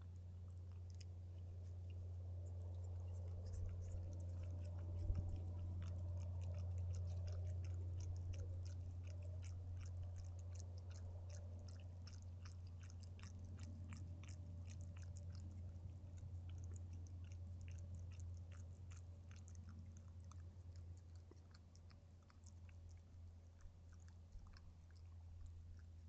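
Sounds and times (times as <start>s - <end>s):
animal chewing vegetables: 0.0s - 26.0s
low hum: 0.0s - 26.0s.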